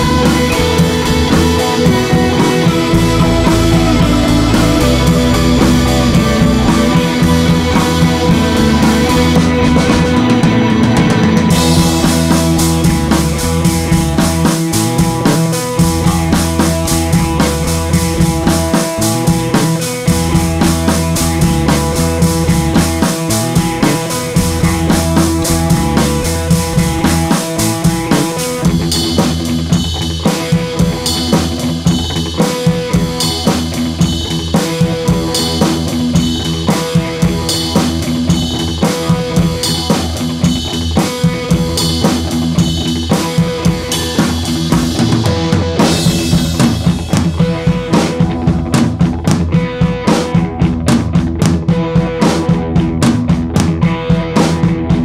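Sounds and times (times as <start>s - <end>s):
music with drum-kit beat: 0.0s - 55.0s.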